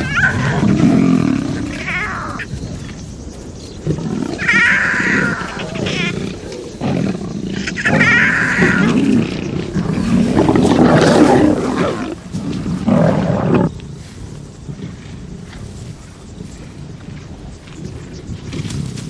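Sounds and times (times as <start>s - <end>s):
lions growling and roaring: 0.0s - 19.0s.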